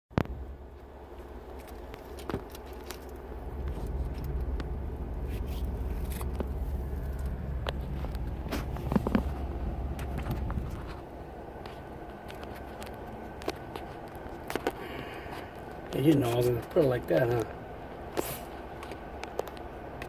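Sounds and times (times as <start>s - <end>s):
vehicle engine rumble inside cabin: 0.1s - 20.0s.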